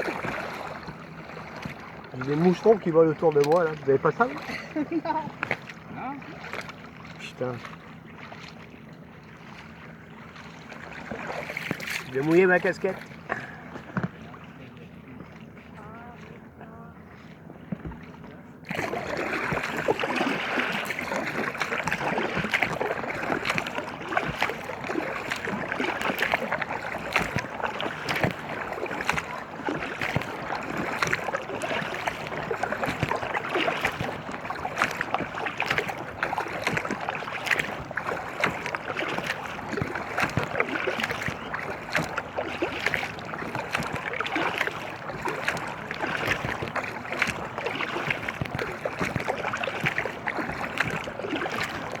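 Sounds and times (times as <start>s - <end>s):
water splashing against kayak: 0.0s - 52.0s.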